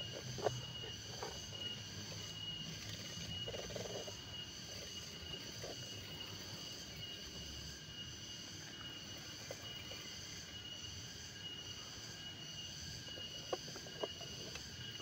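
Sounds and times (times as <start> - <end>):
insect chorus trilling: 0.0 - 15.0.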